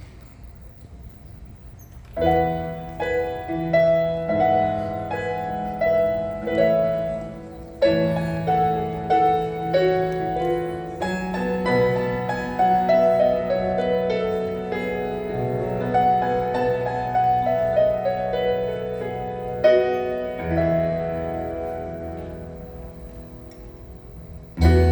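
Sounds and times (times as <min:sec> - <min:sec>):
keyboard playing chords: 0:02.2 - 0:24.9.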